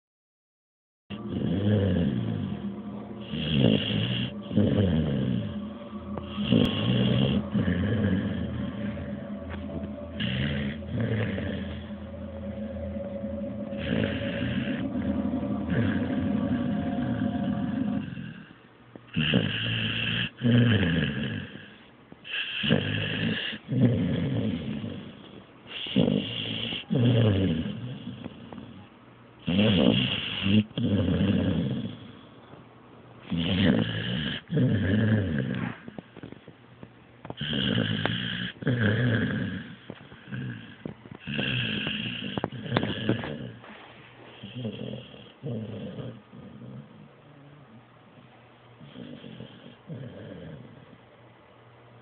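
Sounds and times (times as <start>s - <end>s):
dog snoring: 1.1s - 2.6s, 3.2s - 12.0s, 15.6s - 32.5s, 33.2s - 36.5s, 37.3s - 47.6s, 48.8s - 51.0s.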